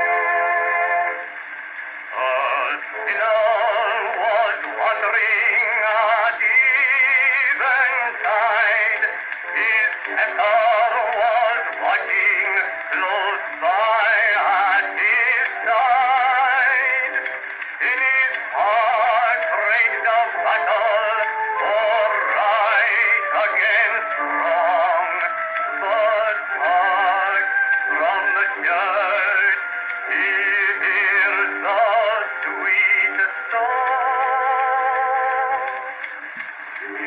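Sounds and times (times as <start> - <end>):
man singing on old phonograph: 0.0 - 37.0
musical accompaniment: 0.0 - 37.0.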